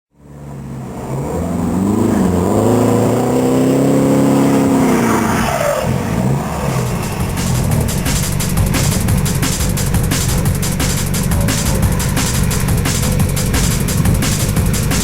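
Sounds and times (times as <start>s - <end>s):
engine revving: 0.1s - 15.0s.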